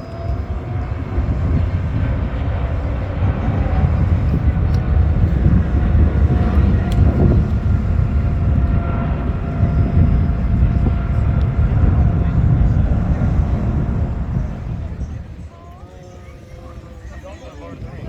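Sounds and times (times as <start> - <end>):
aircraft engine rumble: 0.0 - 18.0
faint higher engine tones: 0.0 - 18.0.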